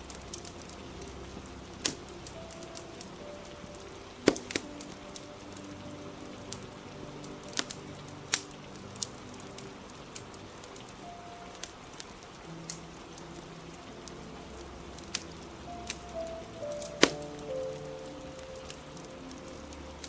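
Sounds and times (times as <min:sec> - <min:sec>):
faint soft music: 0:00.0 - 0:20.0
fire crackling and popping: 0:00.0 - 0:20.0
rain hissing: 0:00.0 - 0:20.0.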